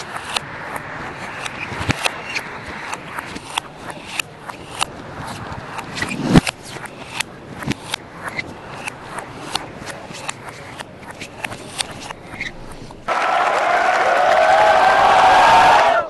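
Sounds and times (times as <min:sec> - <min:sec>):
table tennis ball clicking: 0:00.0 - 0:13.1
steady background noise: 0:00.0 - 0:16.0.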